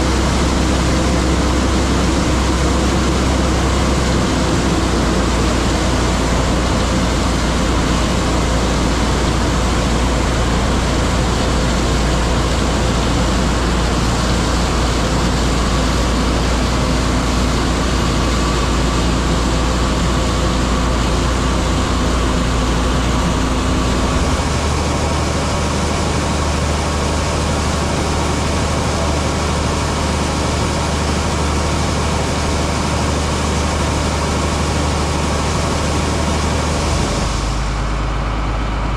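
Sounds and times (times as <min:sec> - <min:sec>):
diesel farm machinery engine drone: 0:00.0 - 0:38.9.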